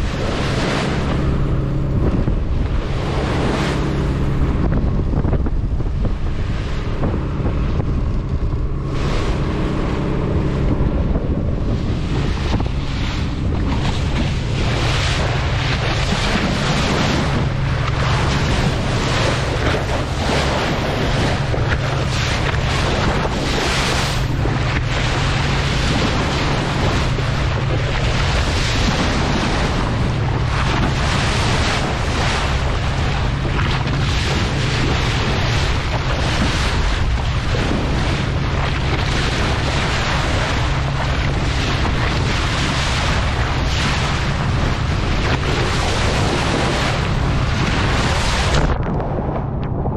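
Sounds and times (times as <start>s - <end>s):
boat engine hum: 0.0s - 49.9s
sea wash: 0.0s - 49.9s
wind buffeting microphone: 0.0s - 49.9s.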